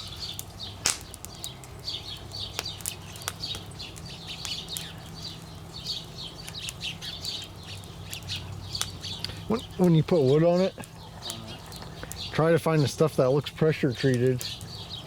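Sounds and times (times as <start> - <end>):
campfire crackling and popping: 0.0 - 15.0
small birds chirping: 0.0 - 15.0.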